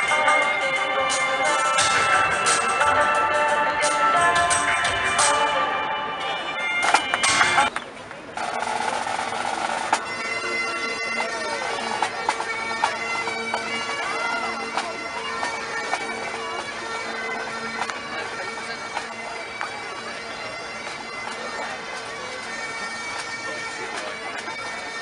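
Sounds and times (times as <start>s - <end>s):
bagpipes playing: 0.0s - 7.7s, 8.4s - 25.0s.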